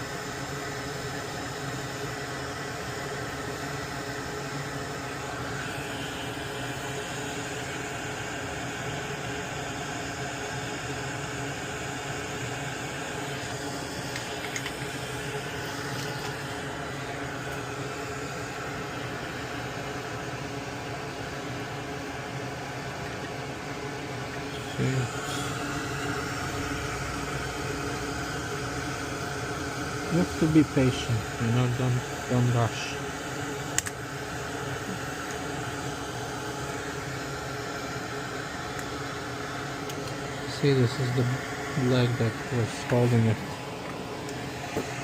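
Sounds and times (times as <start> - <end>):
fan motor whirring: 0.0 - 45.0.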